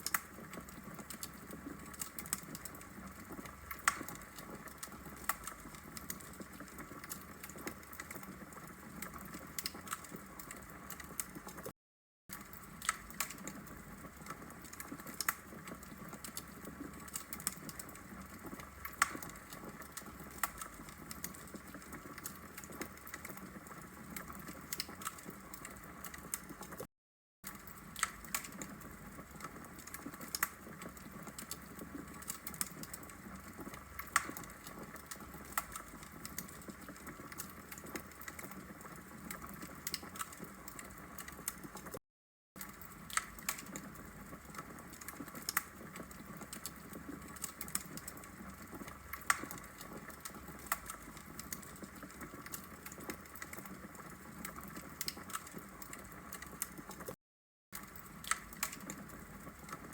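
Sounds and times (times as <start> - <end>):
wood fire crackling: 0.0 - 11.7, 12.3 - 26.8, 27.5 - 42.0, 42.6 - 57.2, 57.8 - 59.9.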